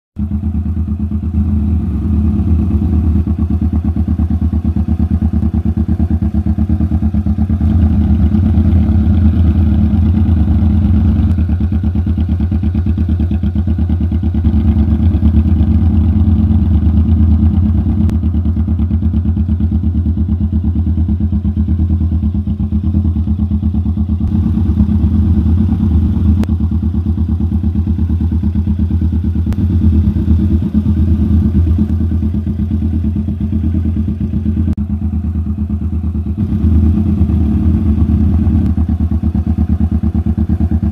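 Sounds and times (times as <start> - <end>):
motorcycle engine idling: 0.2 - 40.9.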